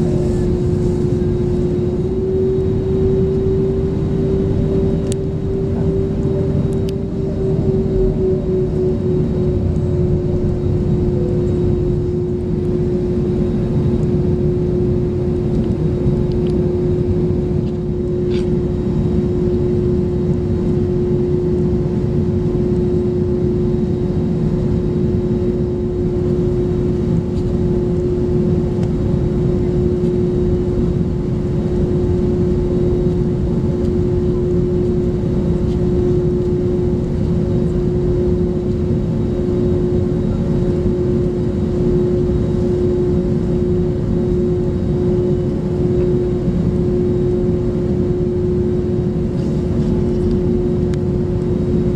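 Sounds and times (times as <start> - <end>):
airplane cabin engine rumble: 0.0 - 51.9
constant low hum: 0.0 - 51.9.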